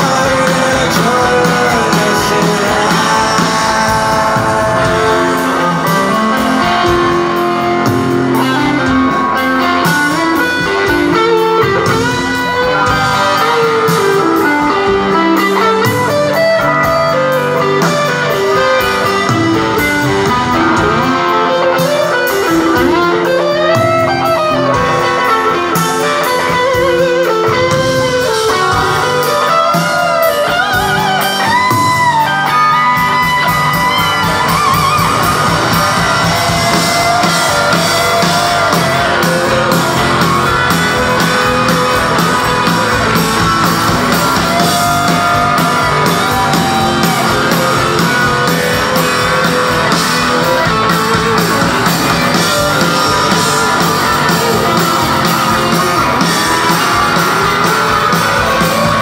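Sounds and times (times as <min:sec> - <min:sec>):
lead guitar bending notes: 0:00.0 - 0:59.0
rock band playing live: 0:00.0 - 0:59.0.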